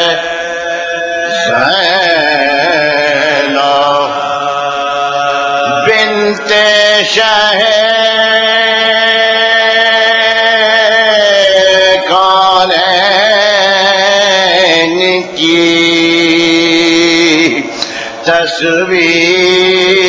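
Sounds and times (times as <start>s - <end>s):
men chanting through microphones: 0.0s - 20.0s.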